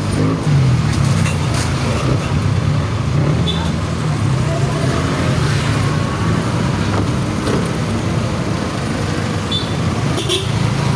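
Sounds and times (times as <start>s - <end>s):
road traffic rumble: 0.0s - 10.9s.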